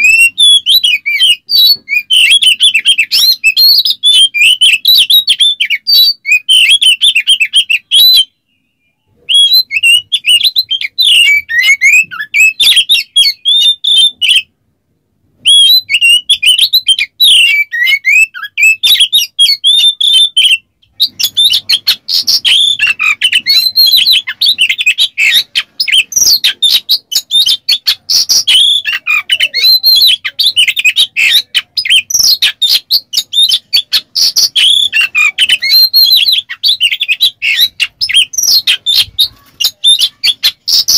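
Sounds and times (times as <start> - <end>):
bird singing whistles and chatter: 0.0 - 14.5, 15.4 - 40.9.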